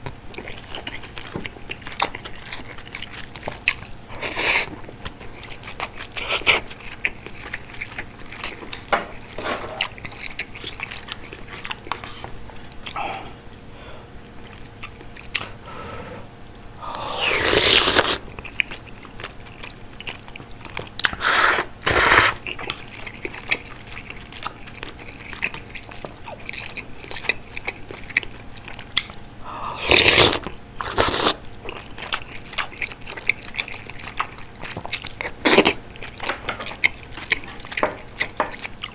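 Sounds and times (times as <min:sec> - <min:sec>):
wet chewing: 0:00.0 - 0:13.6, 0:14.2 - 0:15.6, 0:16.5 - 0:38.9.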